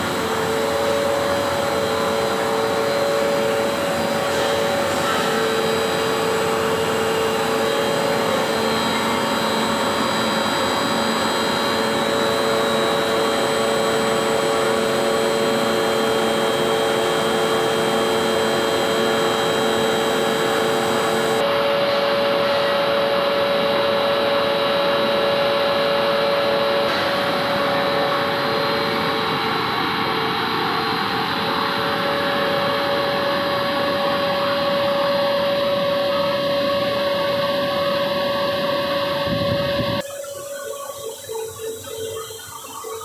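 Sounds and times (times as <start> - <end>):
machine drone: 0.0 - 43.0
steady whining tones: 0.0 - 43.0.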